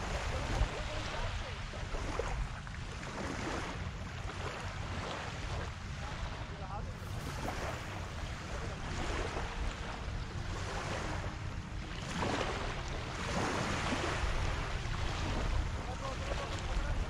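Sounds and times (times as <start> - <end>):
small waves lapping shoreline: 0.0 - 17.0
wind buffeting microphone: 0.0 - 17.0.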